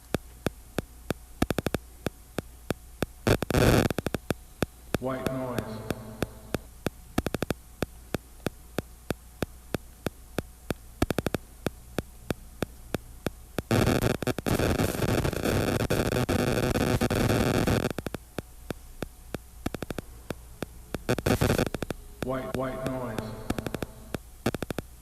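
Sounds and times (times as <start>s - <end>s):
electronic hum: 0.0s - 25.0s
hissing static: 0.0s - 25.0s
sharp clicks: 0.0s - 25.0s.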